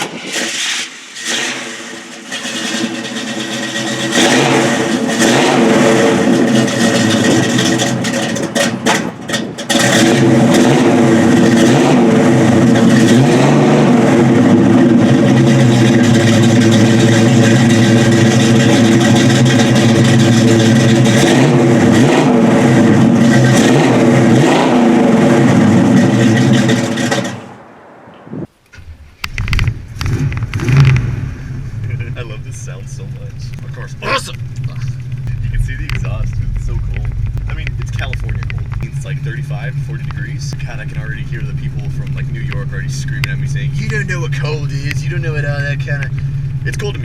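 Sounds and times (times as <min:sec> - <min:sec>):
loud car engine revving: 0:00.0 - 0:28.5, 0:29.4 - 0:47.0.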